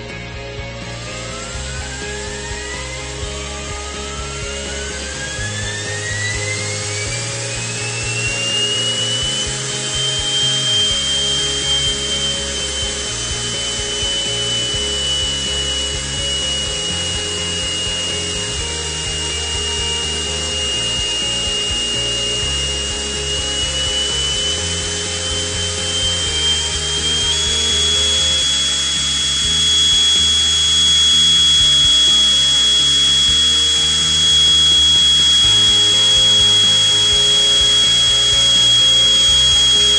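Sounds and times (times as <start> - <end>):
background music: 0.0 - 39.9
jet engine whine: 0.0 - 39.9.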